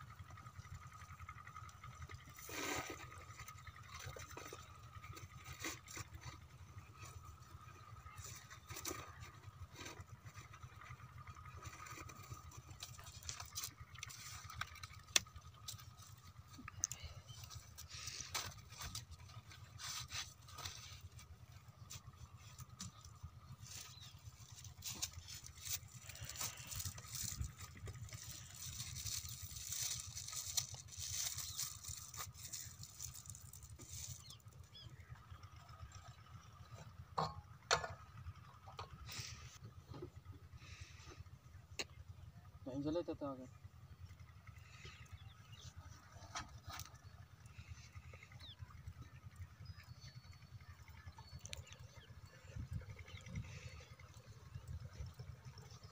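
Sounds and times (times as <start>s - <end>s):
low steady rumble: 0.0s - 55.9s.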